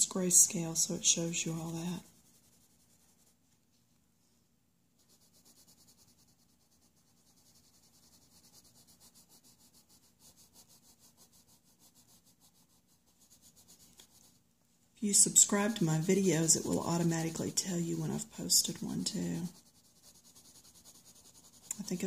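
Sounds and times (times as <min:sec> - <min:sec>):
pencil scratching on paper: 0:00.0 - 0:03.4, 0:05.0 - 0:14.4, 0:15.1 - 0:22.0.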